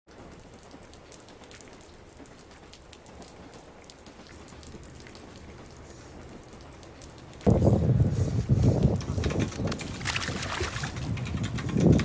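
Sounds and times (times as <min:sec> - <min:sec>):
steady rain: 0:00.1 - 0:12.0.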